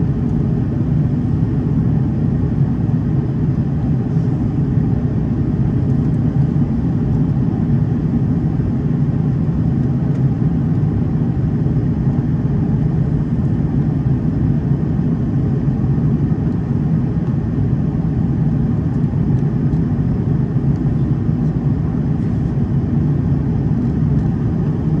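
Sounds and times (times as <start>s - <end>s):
airplane cabin drone: 0.0s - 25.0s.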